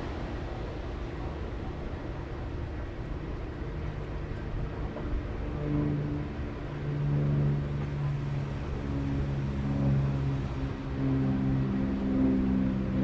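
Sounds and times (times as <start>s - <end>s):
engine droning: 0.0s - 13.0s
wind rumble on microphone: 0.0s - 13.0s.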